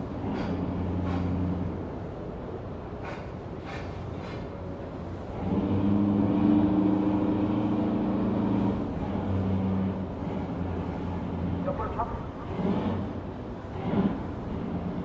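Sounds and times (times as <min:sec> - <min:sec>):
heavy engine humming: 0:00.0 - 0:15.0.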